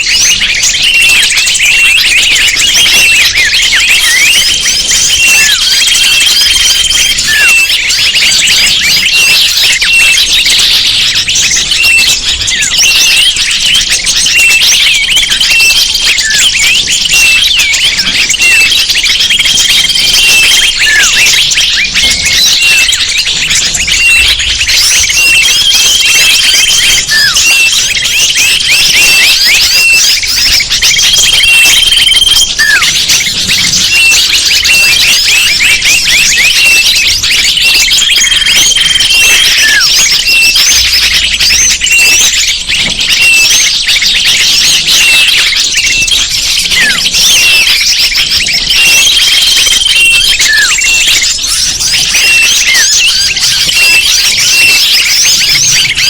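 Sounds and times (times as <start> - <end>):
bird whistle notes: 0.0 - 56.0
small birds chirping: 0.0 - 56.0.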